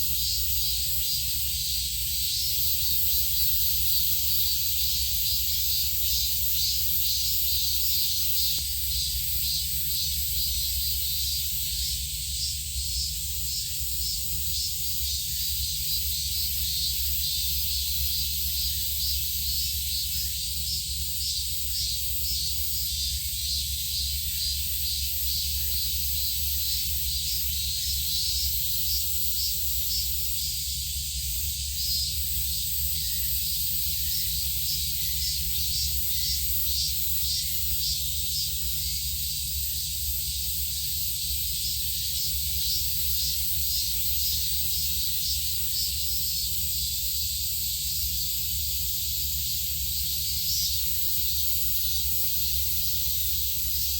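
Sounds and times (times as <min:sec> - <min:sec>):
insect chorus pulsing buzz: 0:00.0 - 0:53.9.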